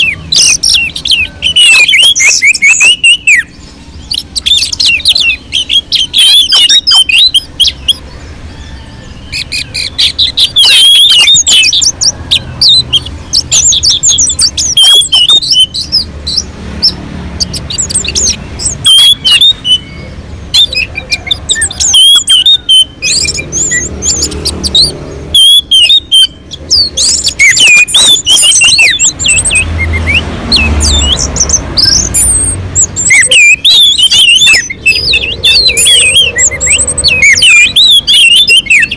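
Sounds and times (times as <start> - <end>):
thrush singing: 0.0 - 38.9.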